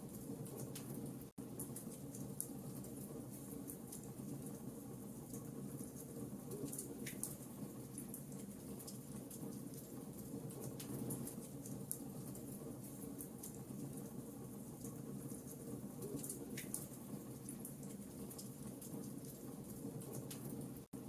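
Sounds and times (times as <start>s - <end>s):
fire crackling and popping: 0.0s - 20.9s.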